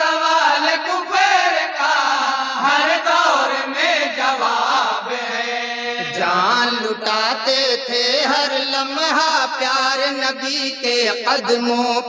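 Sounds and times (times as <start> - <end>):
men singing into a microphone: 0.0 - 12.0.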